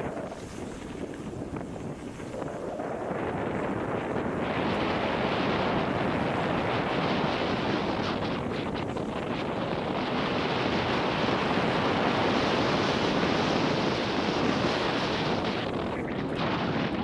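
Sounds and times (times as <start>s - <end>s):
bike tyre and trail noise: 0.0s - 17.0s
wind rush on microphone: 0.0s - 17.0s.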